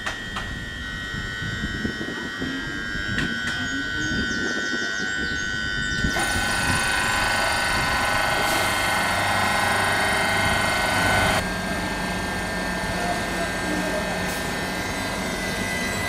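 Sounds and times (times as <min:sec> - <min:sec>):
train mechanical whine and hum: 0:00.0 - 0:16.0.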